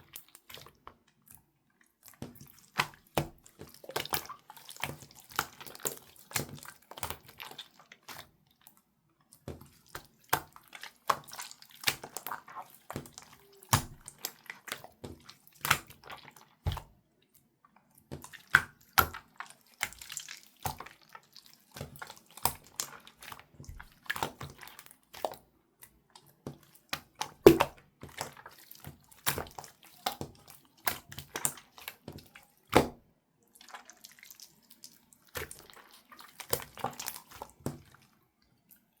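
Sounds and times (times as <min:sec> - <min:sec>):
slime squishing with wet pops: 0:00.0 - 0:39.0.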